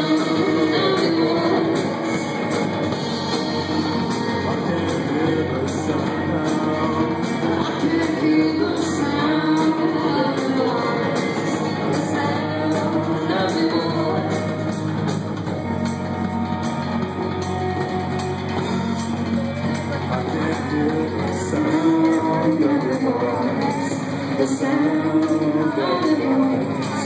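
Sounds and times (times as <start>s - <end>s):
woman singing: 0.0s - 15.1s, 20.0s - 27.0s
live band playing: 0.0s - 27.0s.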